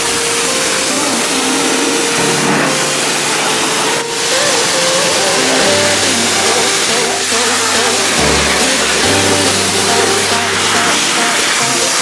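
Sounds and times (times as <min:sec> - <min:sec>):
background music: 0:00.0 - 0:12.0
pressure washer spray hissing: 0:00.0 - 0:12.0.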